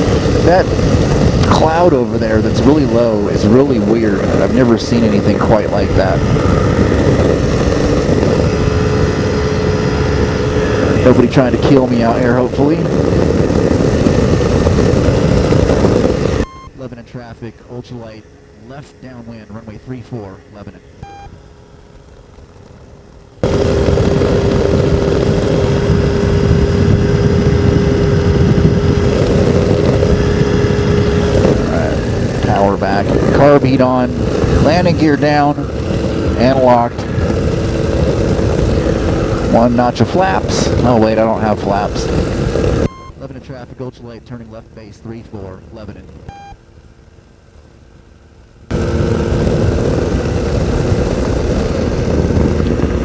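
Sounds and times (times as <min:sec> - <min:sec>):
aircraft engine droning: 0:00.0 - 0:53.0
wind noise: 0:00.0 - 0:53.0.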